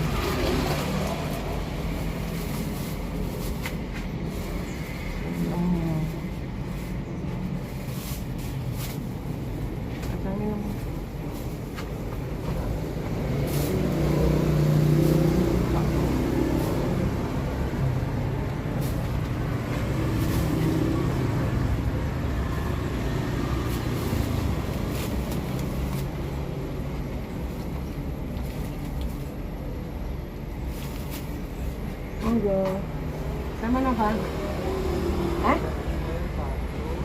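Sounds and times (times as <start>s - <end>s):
vehicle engines on road: 0.0s - 37.0s.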